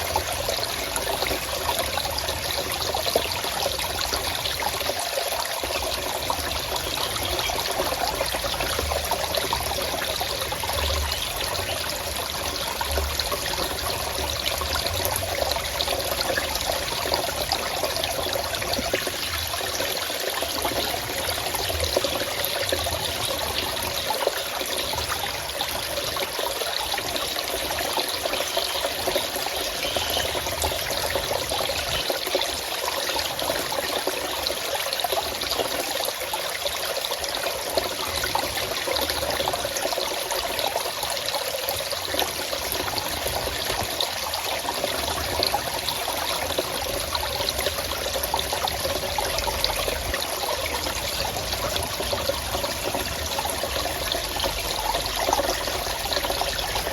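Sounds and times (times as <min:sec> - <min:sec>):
forest stream flowing: 0:00.0 - 0:56.9.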